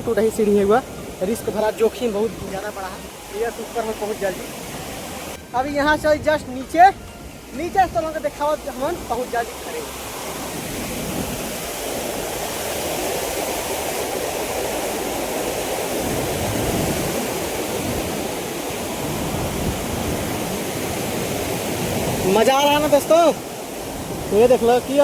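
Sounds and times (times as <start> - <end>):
water rushing through dam gates: 0.0 - 25.0.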